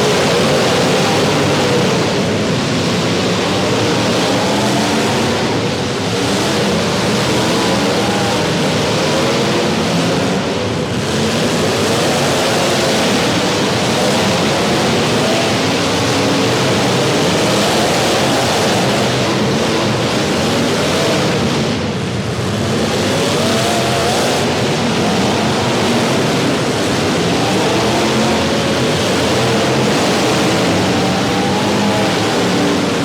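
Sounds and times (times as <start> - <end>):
car engines revving hard: 0.0 - 33.0
loud rush of noise: 0.0 - 33.0.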